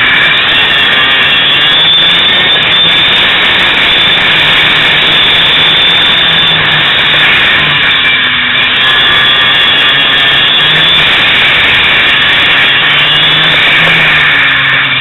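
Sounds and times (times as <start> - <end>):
kart engine running hard: 0.0 - 15.0.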